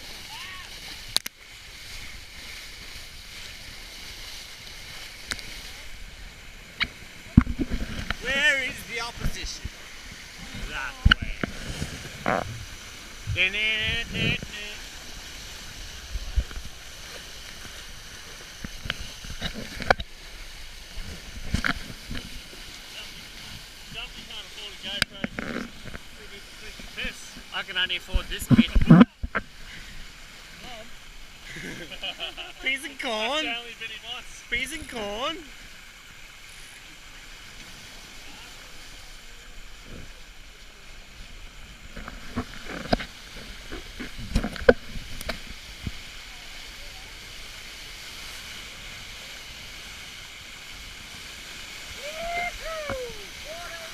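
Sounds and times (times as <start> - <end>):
water rushing along boat hull: 0.0 - 53.9
wind: 0.0 - 53.9.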